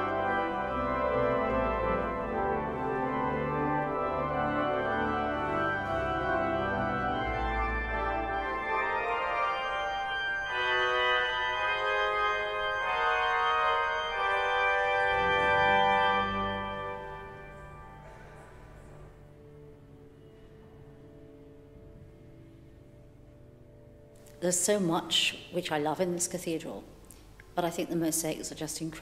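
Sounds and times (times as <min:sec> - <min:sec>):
pipe organ playing sustained chords: 0:00.0 - 0:25.0.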